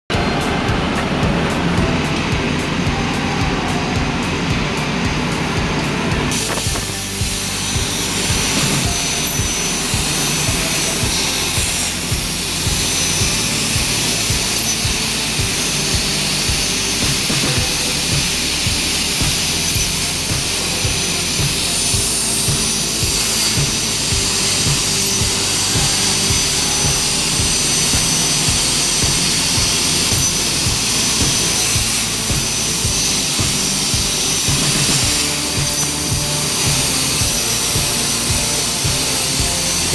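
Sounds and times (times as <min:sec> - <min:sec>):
plasma arc hissing: 0:00.4 - 0:39.9.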